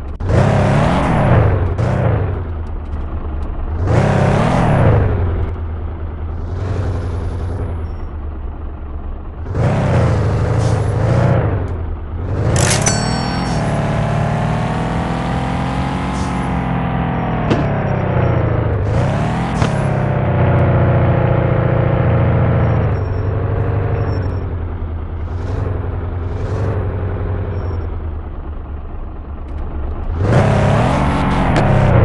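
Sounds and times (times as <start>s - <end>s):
van engine accelerating: 0.0s - 32.0s.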